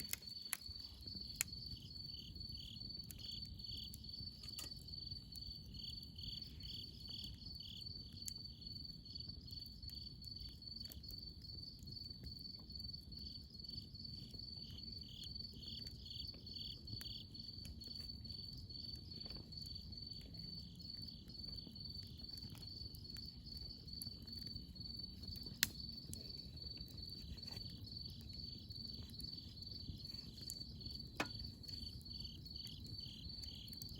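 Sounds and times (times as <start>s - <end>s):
campfire crackling and popping: 0.0s - 33.9s
crickets chirping: 0.0s - 33.9s
insect pulsing slowly: 0.0s - 33.9s.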